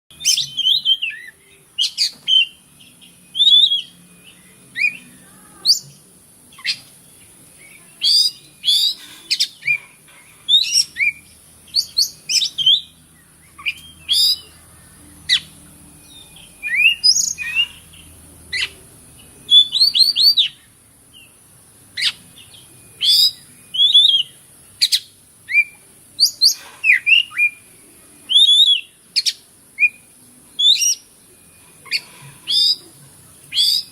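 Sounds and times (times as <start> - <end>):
bird singing whistles and chatter: 0.1 - 21.4, 22.0 - 33.9
steady high-pitched hiss: 0.1 - 33.9.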